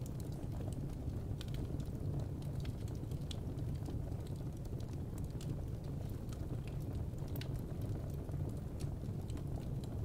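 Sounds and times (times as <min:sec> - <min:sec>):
firewood crackling and popping: 0:00.0 - 0:10.0.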